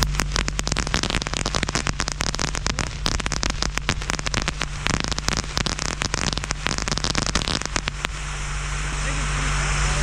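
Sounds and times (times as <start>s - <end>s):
fireworks popping and crackling: 0.0s - 8.3s
low rumble: 0.0s - 10.0s.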